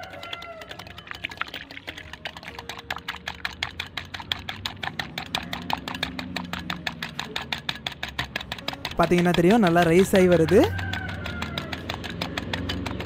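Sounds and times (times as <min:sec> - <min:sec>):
whisk clicking against glass bowl: 0:00.0 - 0:13.0.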